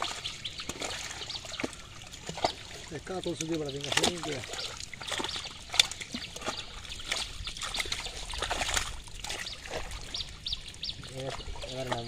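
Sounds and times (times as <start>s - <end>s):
fish flapping and splashing: 0.0s - 12.0s
trickling water: 0.0s - 12.0s.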